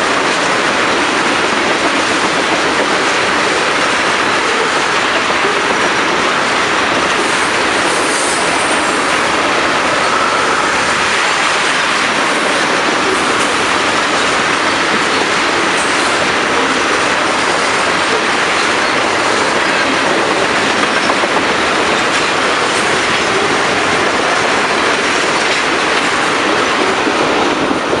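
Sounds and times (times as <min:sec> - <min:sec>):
train wheels rattling on rails: 0:00.0 - 0:28.0.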